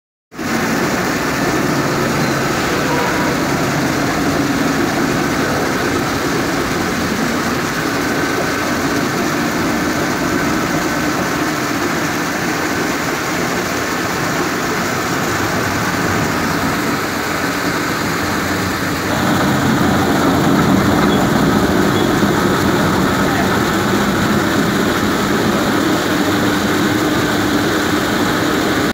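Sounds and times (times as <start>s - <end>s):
stone-polishing machine running: 0.4s - 28.9s.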